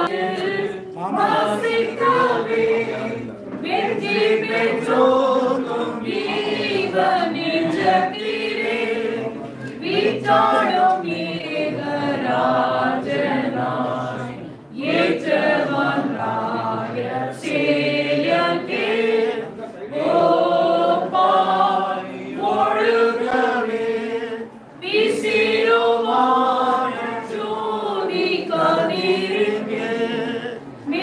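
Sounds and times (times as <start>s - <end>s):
group singing a cappella: 0.0s - 31.0s.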